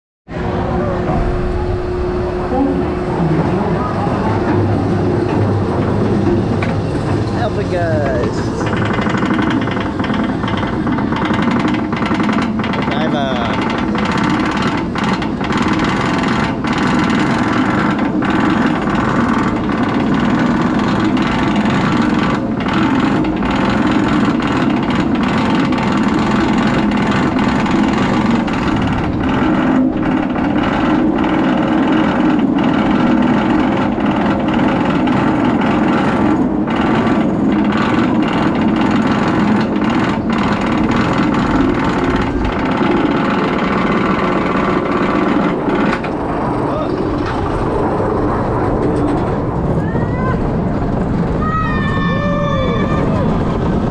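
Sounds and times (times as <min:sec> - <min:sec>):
roller coaster lift chain rattling: 0:00.4 - 0:53.9.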